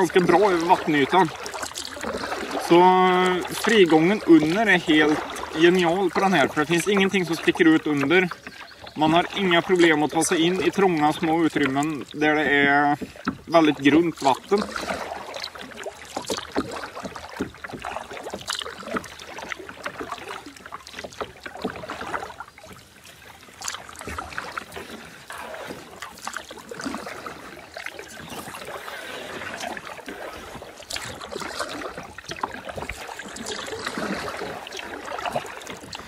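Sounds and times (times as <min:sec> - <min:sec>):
kayak paddle dipping and dripping: 0:00.0 - 0:36.0
water splashing and trickling: 0:00.0 - 0:36.0.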